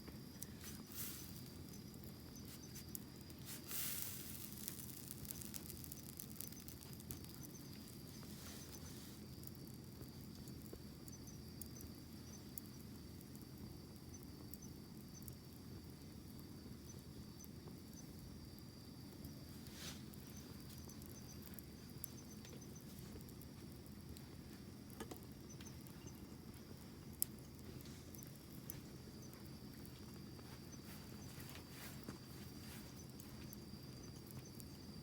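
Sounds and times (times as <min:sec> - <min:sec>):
campfire flames rustling: 0:00.0 - 0:35.0
fire crackling and popping: 0:00.0 - 0:35.0
small chirps: 0:00.1 - 0:35.0.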